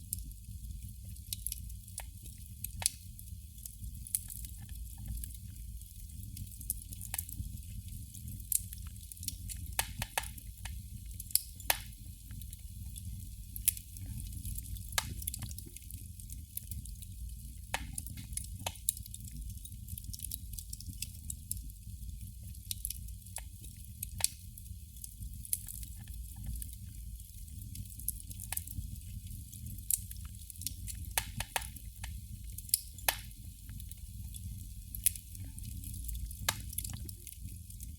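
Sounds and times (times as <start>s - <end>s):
candle flame crackling: 0.0s - 37.9s.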